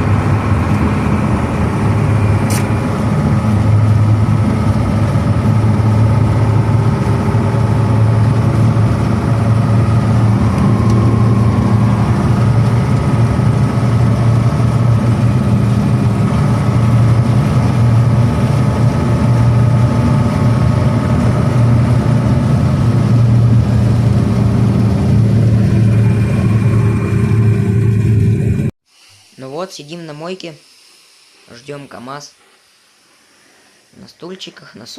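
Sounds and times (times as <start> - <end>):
diesel truck engine running: 0.0 - 28.7.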